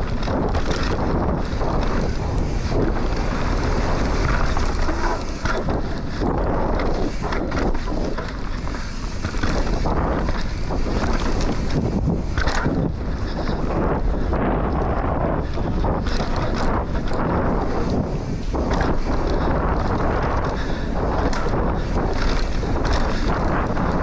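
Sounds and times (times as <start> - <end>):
bike knocking on bumps: 0.0 - 24.0
mountain bike rattling: 0.0 - 24.0
wind buffeting microphone: 0.0 - 24.0.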